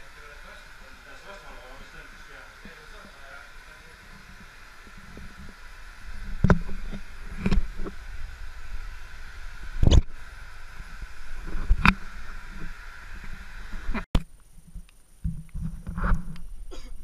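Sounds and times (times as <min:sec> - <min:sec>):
steam hissing: 0:00.0 - 0:14.1.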